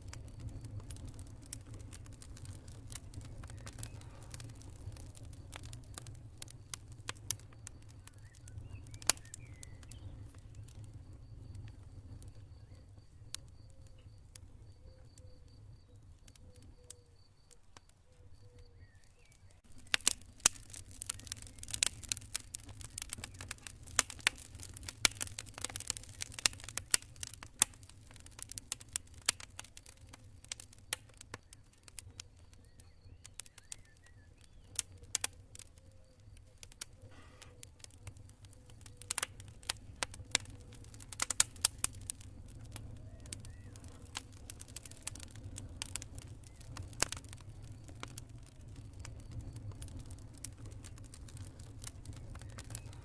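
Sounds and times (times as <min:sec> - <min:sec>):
campfire crackling: 0:00.0 - 0:53.0
cricket chirping: 0:00.0 - 0:53.0.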